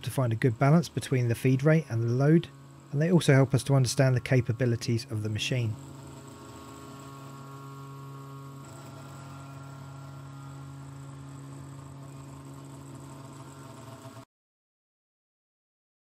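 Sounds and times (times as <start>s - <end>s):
cnc mill spindle hum: 0.0s - 14.2s.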